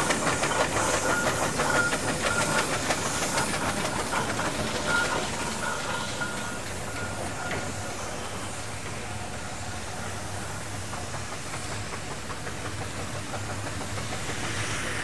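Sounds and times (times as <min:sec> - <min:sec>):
steam engine exhaust beats: 0:00.0 - 0:15.0
steam hissing: 0:00.0 - 0:15.0.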